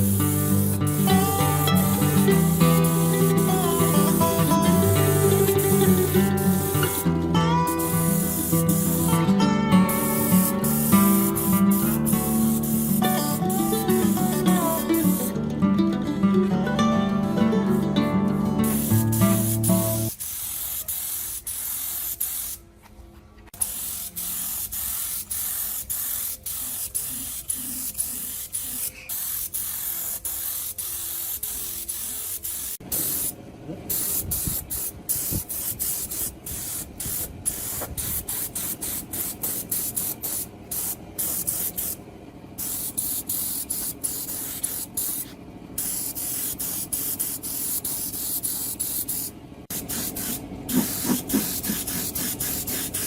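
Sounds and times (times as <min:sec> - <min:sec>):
steady hiss: 0:00.0 - 0:15.4, 0:17.9 - 0:22.6, 0:23.6 - 0:42.0, 0:42.6 - 0:53.0.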